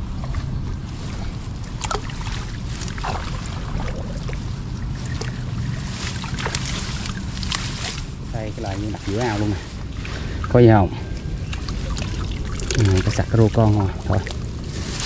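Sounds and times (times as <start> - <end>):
grass rustling: 0.0 - 15.0
wind rumbling on microphone: 0.0 - 15.0.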